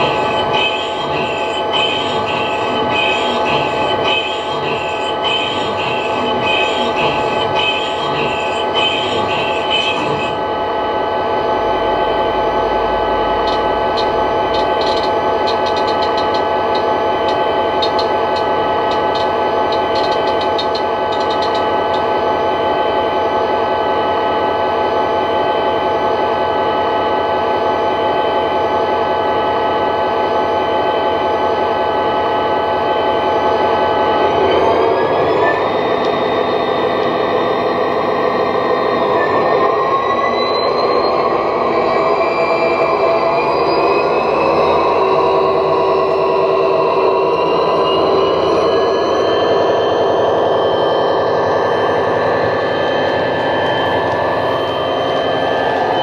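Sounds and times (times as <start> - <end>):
diesel engine through small speaker: 0.0 - 56.0.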